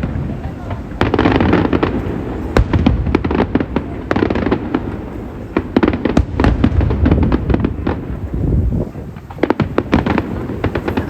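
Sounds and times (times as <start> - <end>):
crackling firework clusters: 0.0 - 11.0
firework cracks and pops: 0.0 - 11.0
low booming of fireworks: 0.0 - 11.0.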